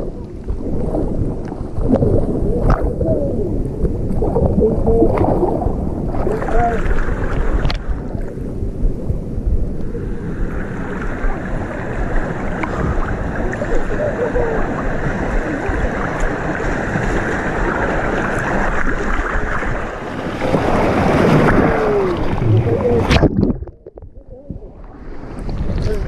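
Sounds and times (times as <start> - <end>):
water splashing: 0.0 - 8.6, 9.7 - 26.0
rushing churning water: 0.0 - 26.0
wind buffeting microphone: 0.0 - 26.0.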